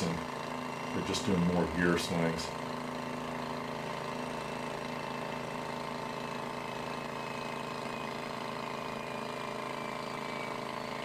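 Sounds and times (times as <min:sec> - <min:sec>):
electric landing gear motor humming: 0:00.0 - 0:11.0.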